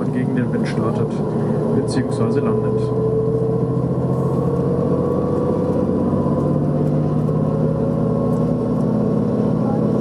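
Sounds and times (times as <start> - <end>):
vehicle engine drone: 0.0 - 10.0
rising hum: 1.0 - 10.0.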